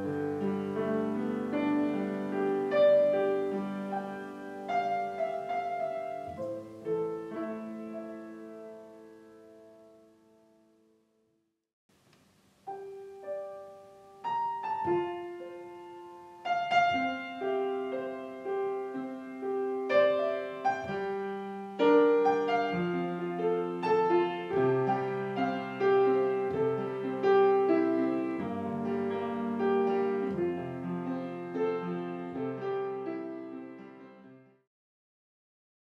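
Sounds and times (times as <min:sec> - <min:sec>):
solo piano music: 0:00.0 - 0:11.2, 0:12.3 - 0:34.7.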